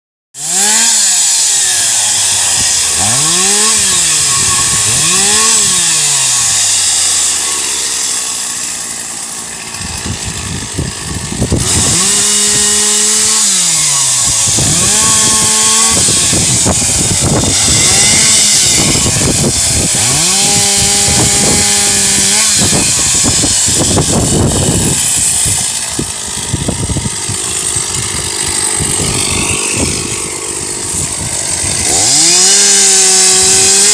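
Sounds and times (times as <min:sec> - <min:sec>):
chainsaw engine revving: 0:00.4 - 0:33.9.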